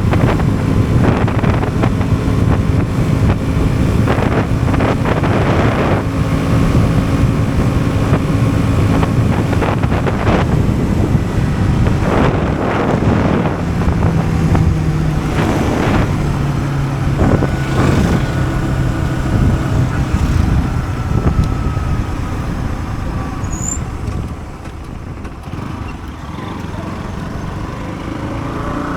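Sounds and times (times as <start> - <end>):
motorcycle engine running: 0.0 - 28.8.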